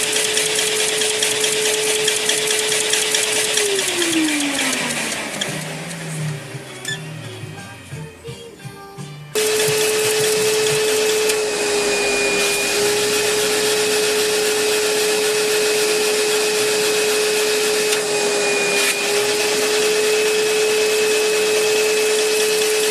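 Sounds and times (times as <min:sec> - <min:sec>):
electric blower motor whining: 0:00.0 - 0:08.6, 0:09.2 - 0:22.9.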